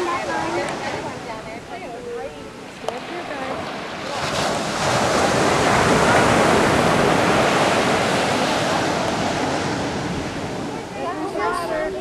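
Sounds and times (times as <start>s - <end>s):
wave breaking on beach: 0.0s - 12.0s.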